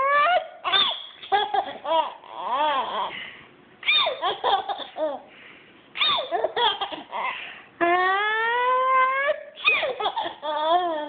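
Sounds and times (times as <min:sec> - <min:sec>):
infant laughing: 0:00.0 - 0:03.1, 0:03.8 - 0:05.3, 0:06.0 - 0:11.0.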